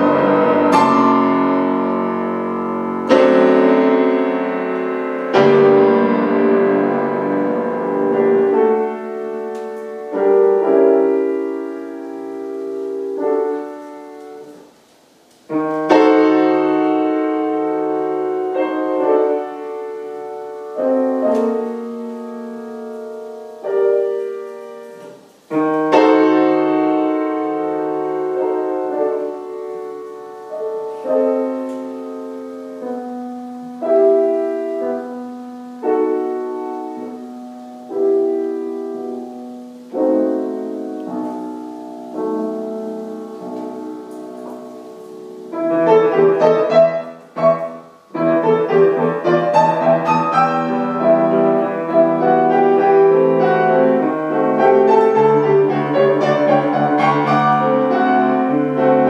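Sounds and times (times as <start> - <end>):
grand piano classical music: 0.0 - 59.0.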